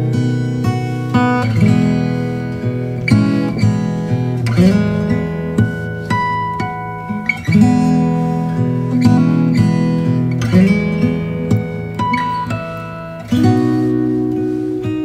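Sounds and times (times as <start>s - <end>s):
acoustic guitar music through speakers: 0.0s - 15.0s.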